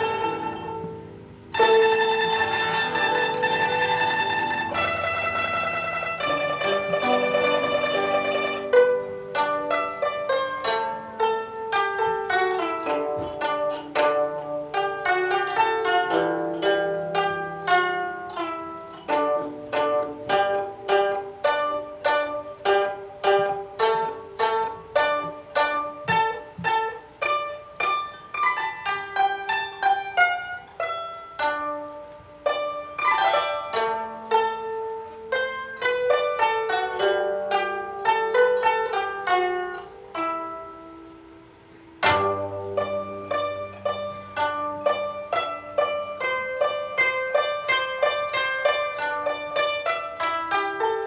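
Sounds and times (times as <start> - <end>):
deep low guzheng note: 0.0 - 31.9, 42.0 - 51.0
guzheng glissando: 0.0 - 51.0
guzheng plucked notes: 0.0 - 51.0.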